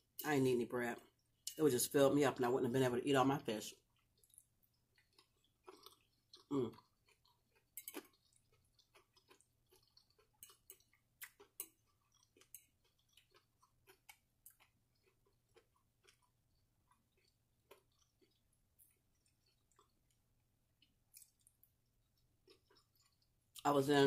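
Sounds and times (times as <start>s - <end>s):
chewing with mouth closed: 3.7s - 23.6s.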